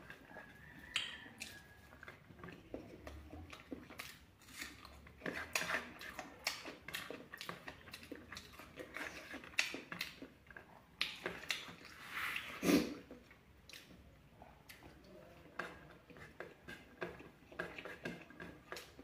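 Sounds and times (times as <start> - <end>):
chewing and crunching: 0.0 - 19.0.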